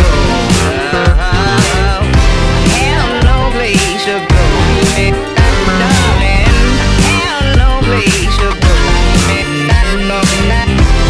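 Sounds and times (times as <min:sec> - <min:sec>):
rock song with steady beat: 0:00.0 - 0:11.0.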